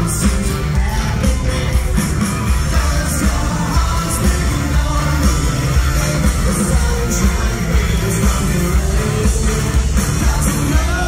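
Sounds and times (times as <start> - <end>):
bass guitar: 0.0 - 11.0
drums: 0.0 - 11.0
electric guitar: 0.0 - 11.0
lead vocal: 0.0 - 11.0.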